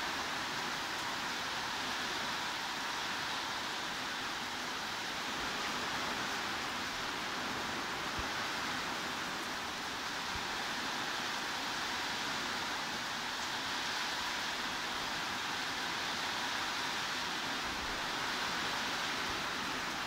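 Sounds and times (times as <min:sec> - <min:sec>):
steady heavy rain: 0:00.0 - 0:20.0.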